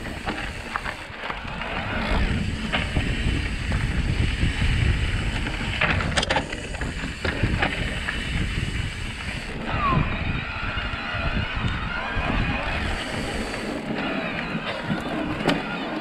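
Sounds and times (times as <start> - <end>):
tyres rolling over dirt: 0.0 - 16.0
wind buffeting microphone: 0.0 - 16.0.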